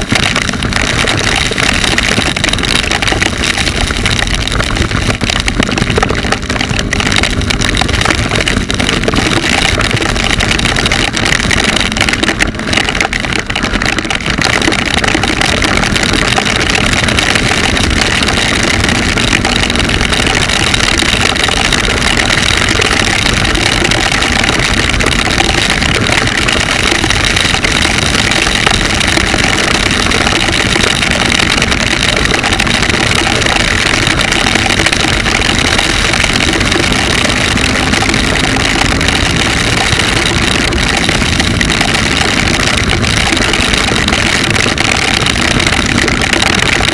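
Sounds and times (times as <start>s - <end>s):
motorcycle engine drone: 0.0s - 46.9s
wet road noise: 0.0s - 46.9s
wind rush: 0.0s - 46.9s.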